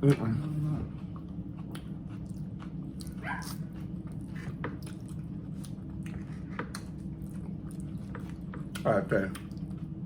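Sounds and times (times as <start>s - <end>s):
chewing and lip-smacking: 0.1s - 10.0s.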